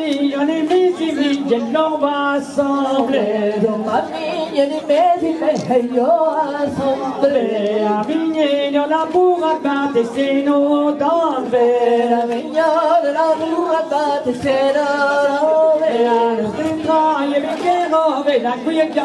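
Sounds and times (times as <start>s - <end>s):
women singing unaccompanied: 0.0s - 19.0s.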